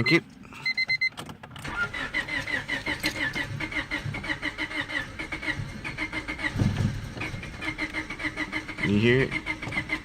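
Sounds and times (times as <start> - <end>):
car engine cranking: 0.9 - 10.0.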